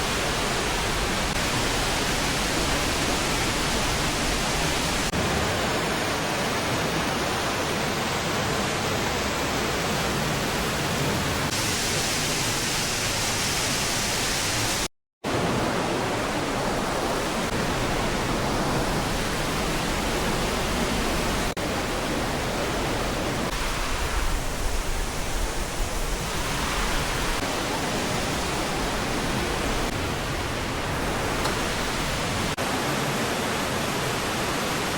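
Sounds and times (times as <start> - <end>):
stream and waterfall rushing: 0.0 - 34.9.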